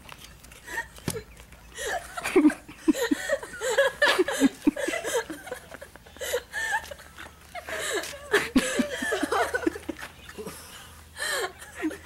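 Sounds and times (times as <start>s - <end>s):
girls giggling and laughing: 0.5s - 12.0s.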